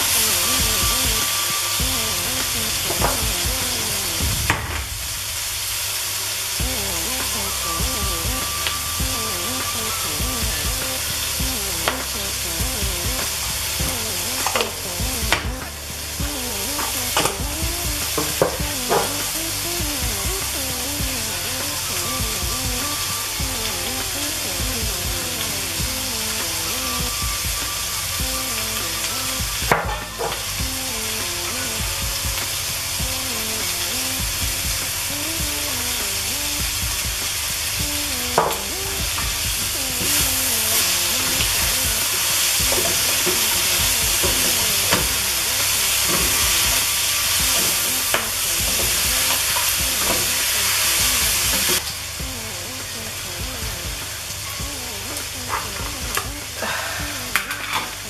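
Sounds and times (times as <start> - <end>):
chicken and spinach sizzling in pot: 0.0 - 36.6, 37.2 - 53.4.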